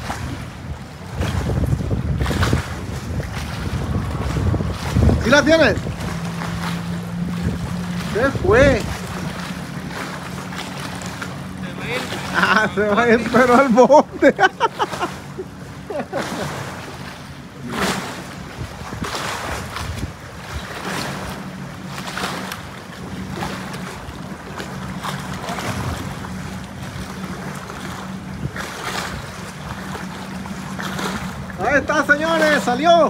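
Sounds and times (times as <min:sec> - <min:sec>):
low engine drone: 0:00.0 - 0:33.0
water washing in: 0:00.0 - 0:33.0
wind buffeting microphone: 0:00.0 - 0:33.0.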